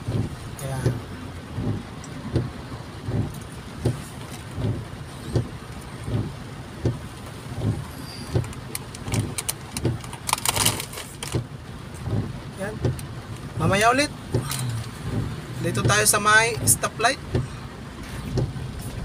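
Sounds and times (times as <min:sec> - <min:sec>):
car cabin low rumble: 0:00.0 - 0:19.0
soft regular thump: 0:00.0 - 0:19.0.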